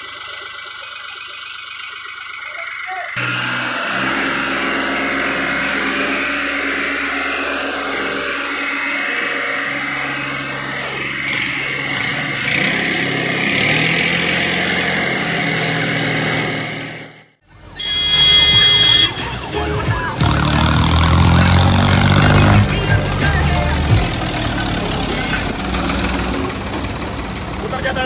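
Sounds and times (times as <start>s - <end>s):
diesel tractor engines under load: 0.0s - 28.0s.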